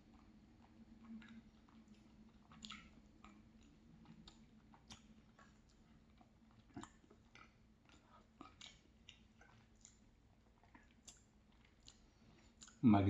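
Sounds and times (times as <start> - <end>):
chewing and wet mouth clicks: 0.0 - 12.8
low steady hum: 0.0 - 13.0.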